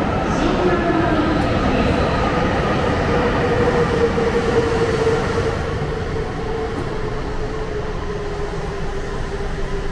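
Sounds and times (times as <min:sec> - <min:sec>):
train humming drone: 0:00.0 - 0:09.9.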